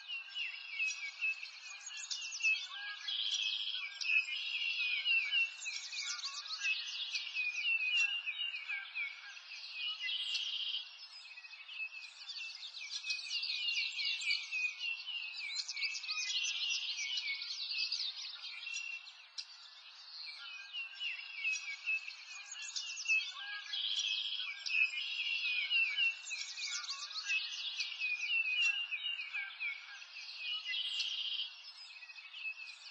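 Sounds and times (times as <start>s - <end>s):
birds chirping and trilling: 0.0s - 32.9s.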